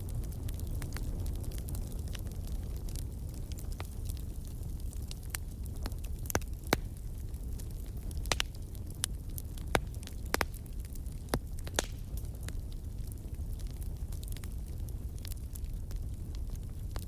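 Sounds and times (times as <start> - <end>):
low rumble of burning fire: 0.0 - 17.0
wood fire popping and snapping: 0.0 - 17.0.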